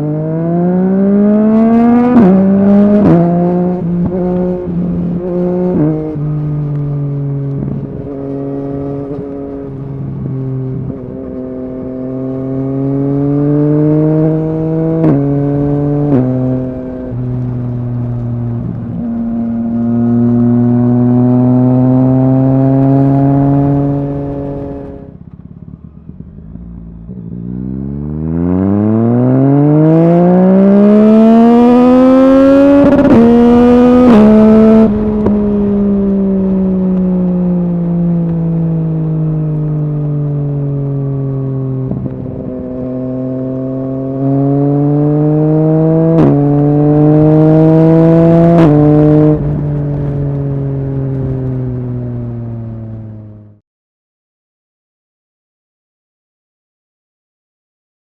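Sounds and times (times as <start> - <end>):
motorcycle engine accelerating: 0.0 - 53.6.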